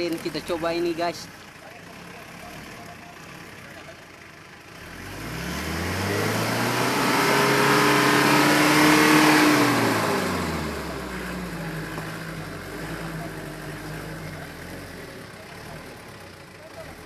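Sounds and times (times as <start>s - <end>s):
pickup engine revving and idling: 0.0s - 17.0s.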